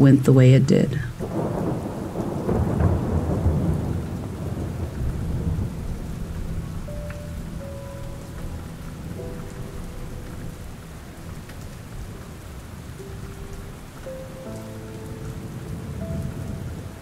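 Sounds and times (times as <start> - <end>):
steady rain: 0.0 - 17.0
thunder rumble: 0.7 - 17.0
slow melody of held notes: 1.2 - 17.0.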